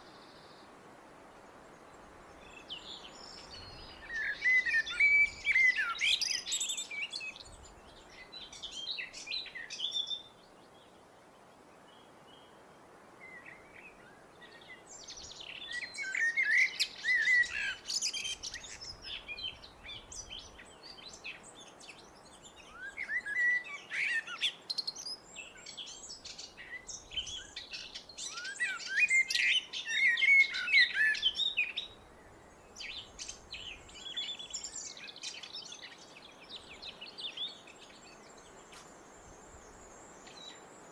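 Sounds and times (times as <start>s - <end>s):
faint background noise: 0.0s - 40.9s
blackbird singing: 2.4s - 10.3s, 13.3s - 38.5s.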